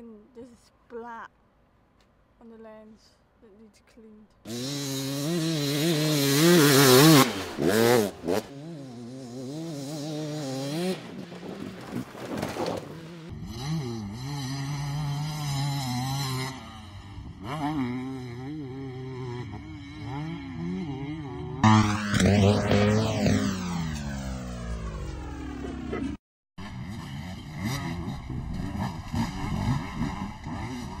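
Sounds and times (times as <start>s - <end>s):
motorcycle engine revving: 4.5s - 31.0s.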